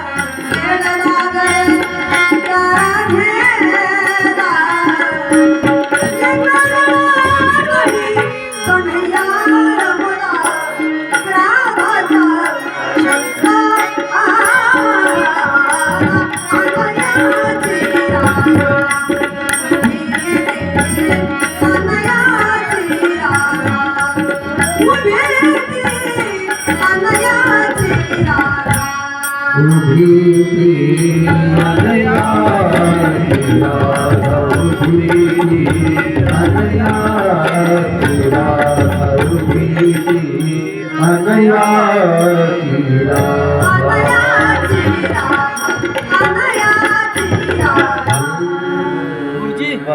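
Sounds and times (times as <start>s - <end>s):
hand drum: 0.0s - 48.5s
woman singing: 0.0s - 49.0s.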